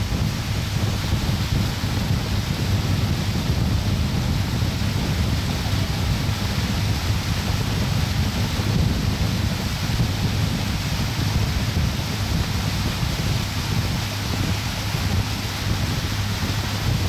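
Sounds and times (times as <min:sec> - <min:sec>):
rush of water: 0:00.0 - 0:17.0
wind buffeting microphone: 0:00.0 - 0:17.0.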